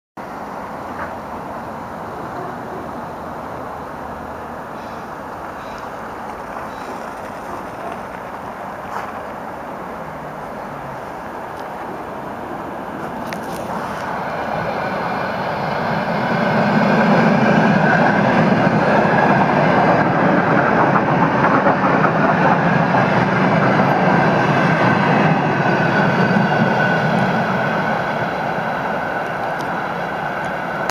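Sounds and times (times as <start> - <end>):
train wheels rumbling on rails: 0.2 - 30.9.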